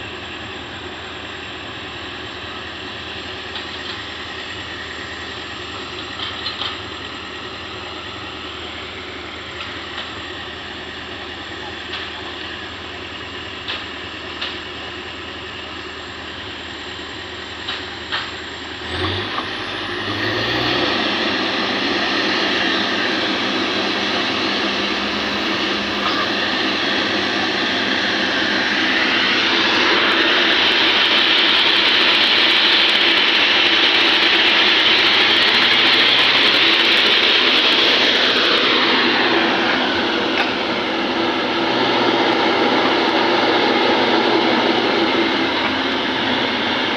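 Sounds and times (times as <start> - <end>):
excavator diesel engine revving: 0.0 - 46.9
loud rushing whine: 0.0 - 46.9.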